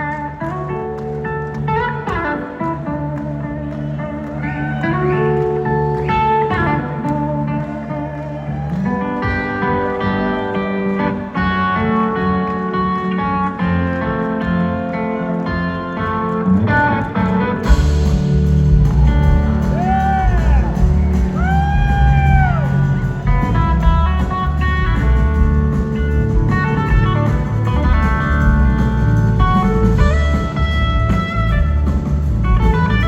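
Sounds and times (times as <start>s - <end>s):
blues-rock band playing: 0.0s - 33.0s
electric guitar notes: 0.0s - 33.0s.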